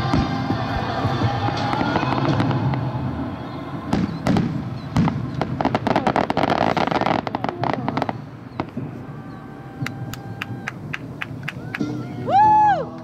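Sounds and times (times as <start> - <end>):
fireworks cracking and banging: 0.0 - 12.5.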